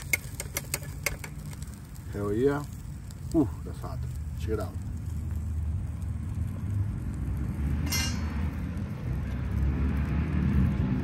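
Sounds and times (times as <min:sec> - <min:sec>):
steady low rumble: 0:01.4 - 0:11.0.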